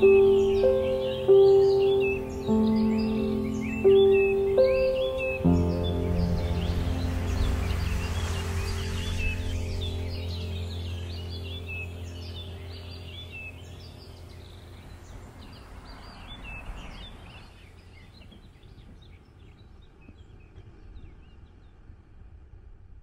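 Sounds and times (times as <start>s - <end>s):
songbirds chirping: 0.0s - 22.4s
low outdoor background noise: 0.0s - 23.0s.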